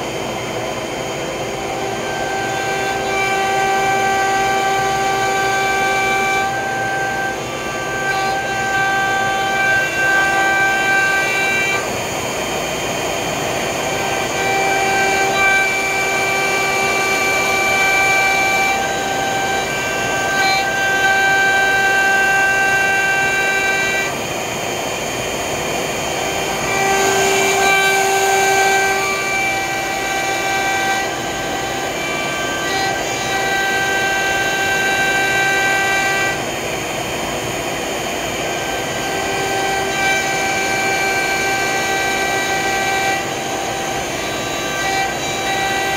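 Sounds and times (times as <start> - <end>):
router spindle high whine: 0.0 - 45.9
wood cutting noise: 0.0 - 45.9.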